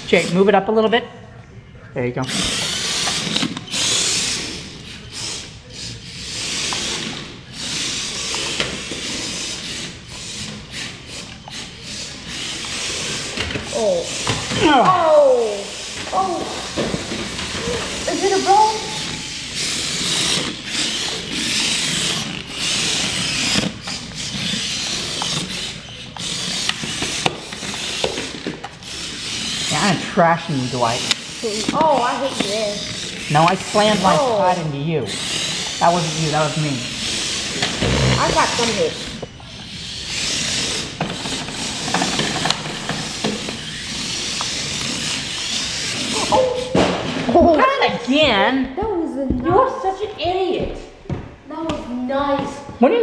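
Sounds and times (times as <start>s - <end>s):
toy vehicle motors whirring: 0.0s - 0.6s, 2.2s - 48.4s.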